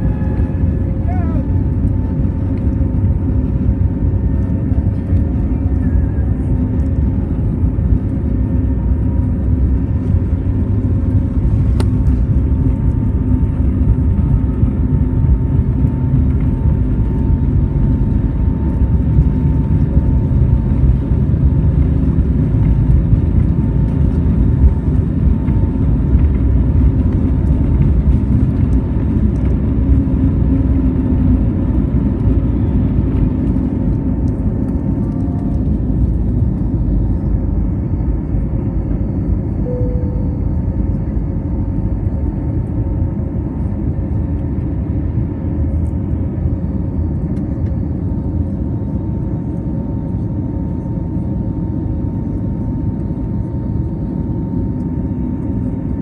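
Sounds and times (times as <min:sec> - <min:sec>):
faint engine whine: 0:00.0 - 0:56.0
jet engine rumble: 0:00.0 - 0:56.0.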